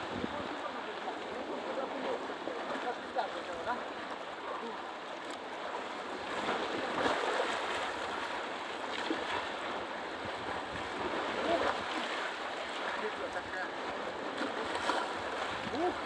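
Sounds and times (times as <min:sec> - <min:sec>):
sea waves breaking and washing: 0:00.0 - 0:16.0.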